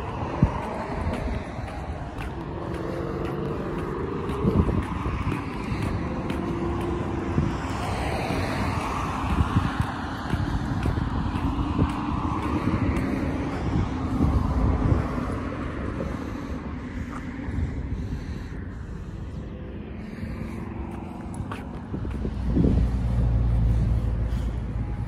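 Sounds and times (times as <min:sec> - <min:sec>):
cars passing on road: 0:00.0 - 0:25.0.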